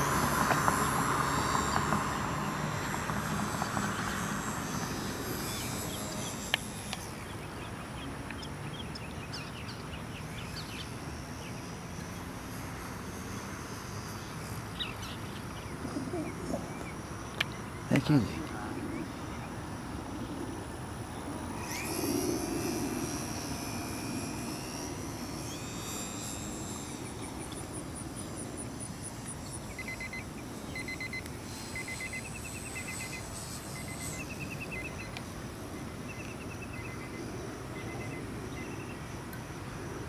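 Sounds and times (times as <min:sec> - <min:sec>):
model plane motor whining: 0:00.0 - 0:16.5, 0:19.7 - 0:40.0.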